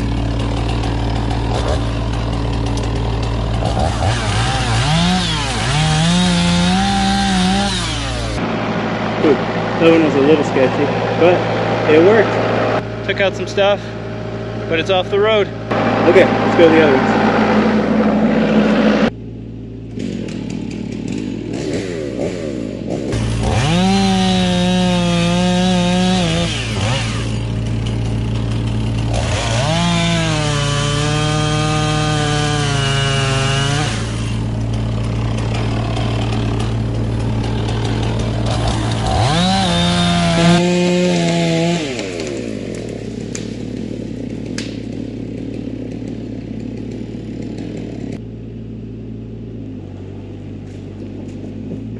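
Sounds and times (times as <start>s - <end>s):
chainsaw revving: 0.0s - 19.2s, 19.9s - 48.2s
low engine hum: 0.0s - 51.9s.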